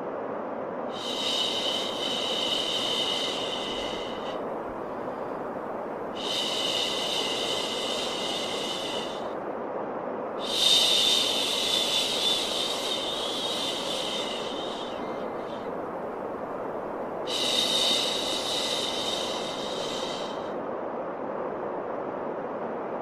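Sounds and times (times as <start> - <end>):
low white noise hiss: 0.0 - 23.0.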